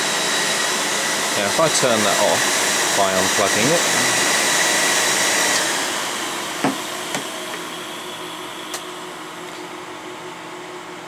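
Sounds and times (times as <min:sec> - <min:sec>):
cooling fans spinning down: 0:00.0 - 0:11.0.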